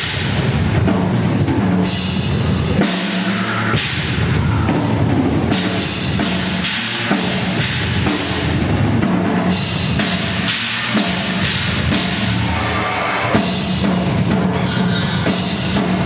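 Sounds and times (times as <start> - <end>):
drum kit beat: 0.0 - 16.0.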